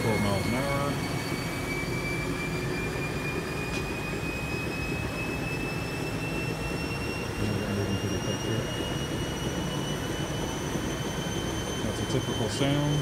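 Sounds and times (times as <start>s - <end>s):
treadmill motor rumbling and whining: 0.0s - 13.0s.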